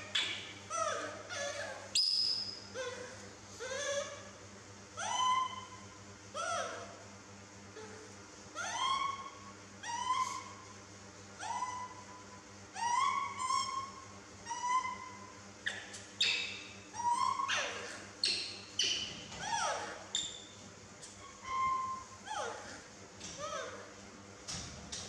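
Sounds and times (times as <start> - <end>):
baby macaque calling: 0.0 - 4.4, 5.0 - 7.0, 7.8 - 10.8, 11.4 - 23.9.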